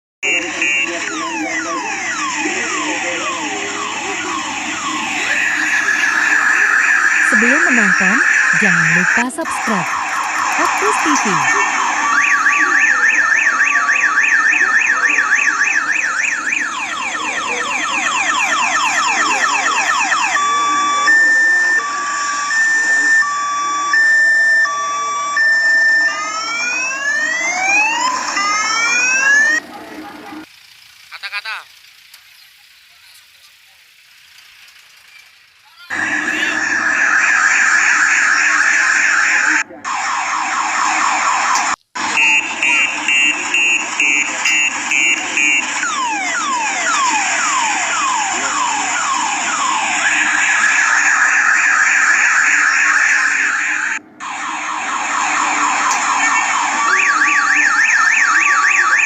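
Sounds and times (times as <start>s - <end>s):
two-tone electronic siren: 0.2s - 30.5s, 35.7s - 59.0s.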